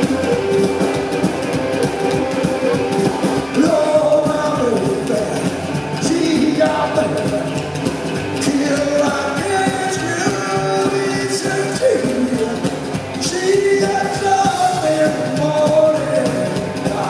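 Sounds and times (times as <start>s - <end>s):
drums: 0.0s - 17.0s
electric guitar: 0.0s - 17.0s
rock and roll band playing: 0.0s - 17.0s
upright double bass: 0.0s - 17.0s.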